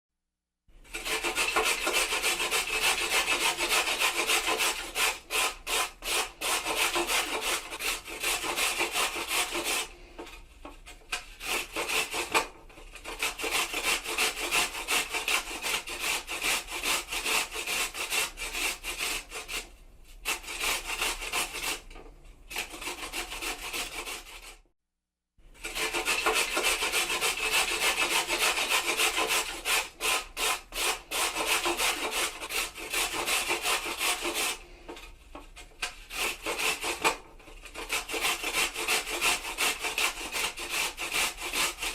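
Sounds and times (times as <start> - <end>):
kitchen grater rasping: 0.8 - 24.6, 25.6 - 41.9.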